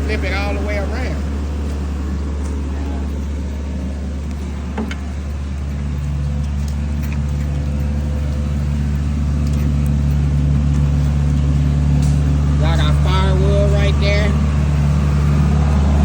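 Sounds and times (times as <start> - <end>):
backhoe engine running: 0.0 - 16.0.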